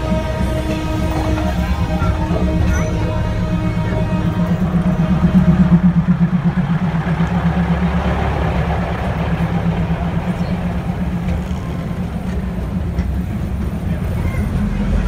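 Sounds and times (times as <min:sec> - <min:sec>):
carriages rumbling: 0:00.0 - 0:15.0
train engine drone: 0:00.0 - 0:15.0.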